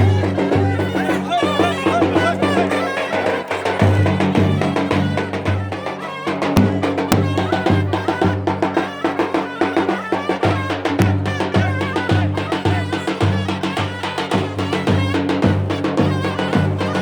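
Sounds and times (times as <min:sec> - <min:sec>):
steady drum beat: 0:00.0 - 0:17.0
wavering folk melody: 0:00.0 - 0:17.0.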